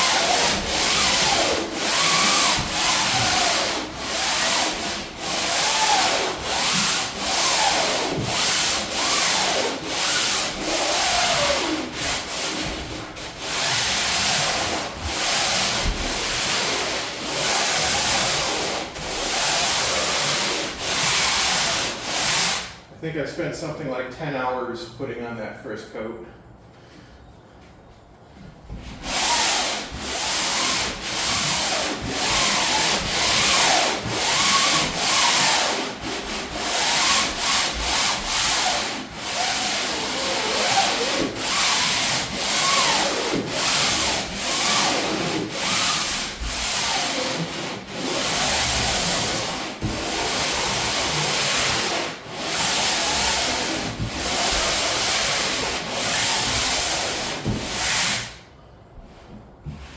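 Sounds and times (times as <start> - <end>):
sandpaper scratching on wood: 0.0 - 22.6, 29.0 - 58.3.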